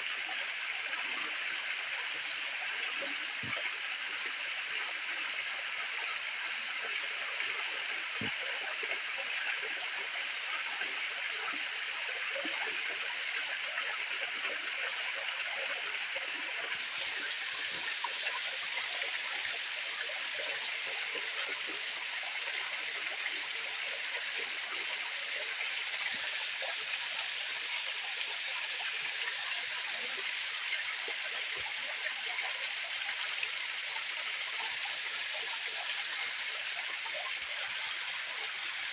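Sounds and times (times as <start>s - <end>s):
water flowing: 0.1s - 38.9s.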